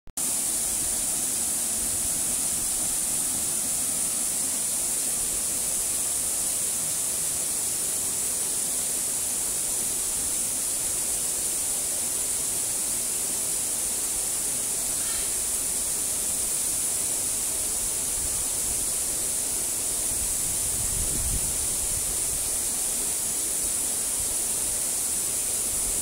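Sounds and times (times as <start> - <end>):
waterfall rushing: 0.2 - 26.0.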